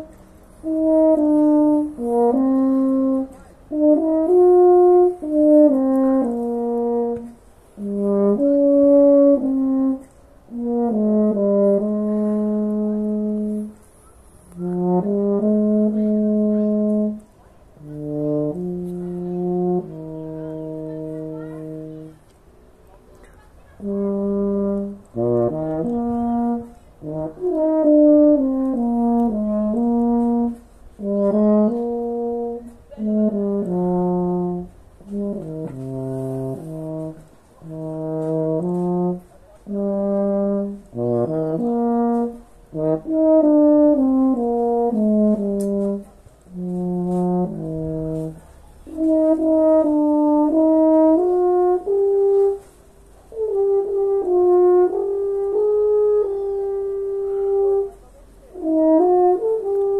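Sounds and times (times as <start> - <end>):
solo euphonium melody: 0.0 - 22.4, 23.8 - 59.9.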